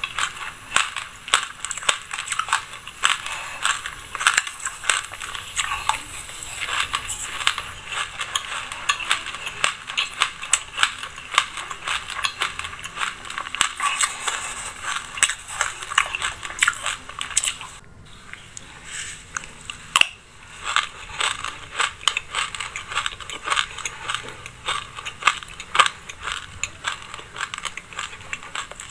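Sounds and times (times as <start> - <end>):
chewing crunchy seeds: 0.0 - 28.9.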